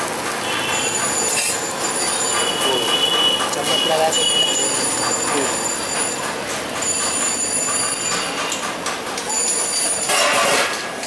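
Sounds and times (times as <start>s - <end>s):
busy street noise: 0.0s - 11.0s.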